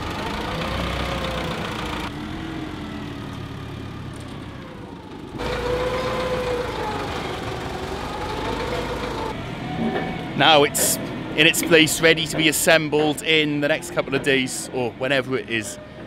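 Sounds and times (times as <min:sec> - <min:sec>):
forklift engine running under load: 0:00.0 - 0:16.0.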